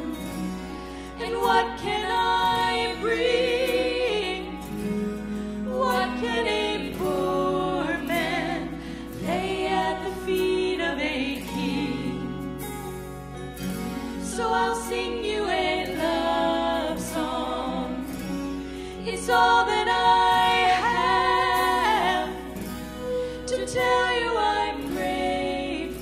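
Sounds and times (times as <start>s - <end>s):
women singing gospel song: 0.0s - 13.0s, 14.2s - 26.0s
sustained instrumental backing: 0.0s - 26.0s.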